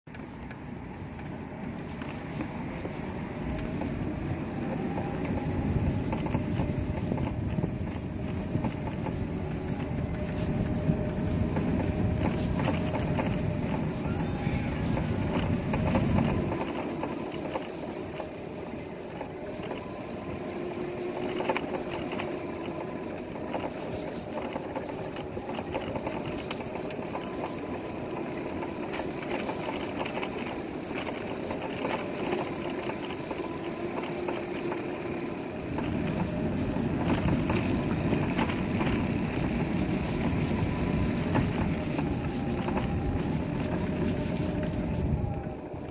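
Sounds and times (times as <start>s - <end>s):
electric scooter whining: 0.1s - 45.9s.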